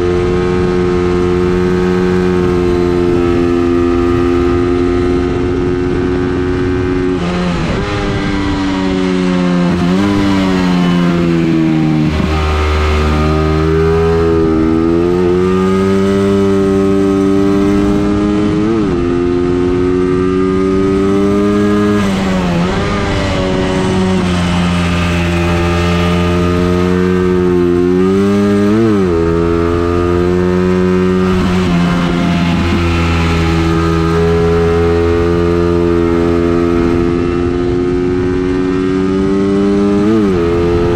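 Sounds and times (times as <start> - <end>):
racing engine revving: 0.0 - 40.9.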